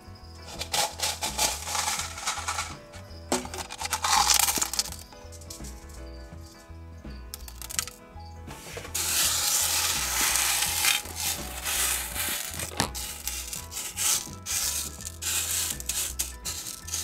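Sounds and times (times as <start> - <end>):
soft background music: 0.0 - 17.0
gravel scraping on glass: 0.4 - 6.1, 8.5 - 17.0.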